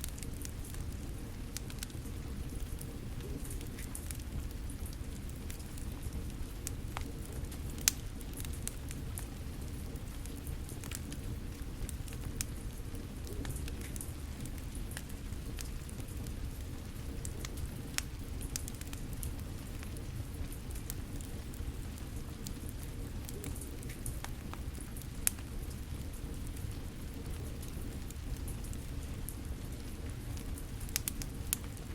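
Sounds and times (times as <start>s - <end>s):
sharp pops of fire: 0.0s - 31.8s
fire crackling: 0.0s - 31.9s.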